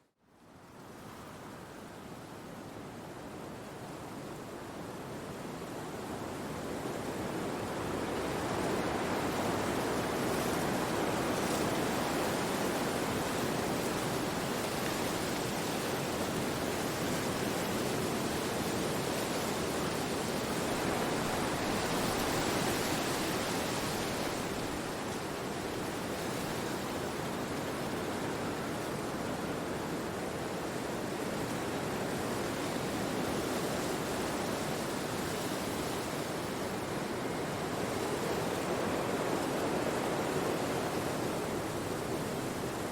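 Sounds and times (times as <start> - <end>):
wind through trees: 0.0 - 42.9.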